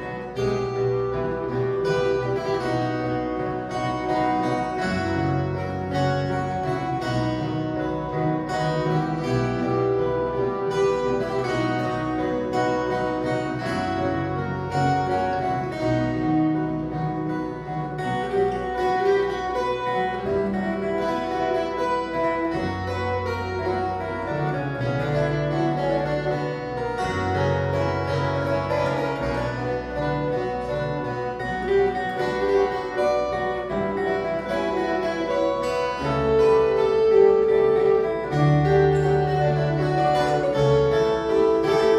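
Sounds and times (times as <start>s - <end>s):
held bass notes: 0.0s - 41.9s
plucked string ensemble: 0.0s - 41.9s.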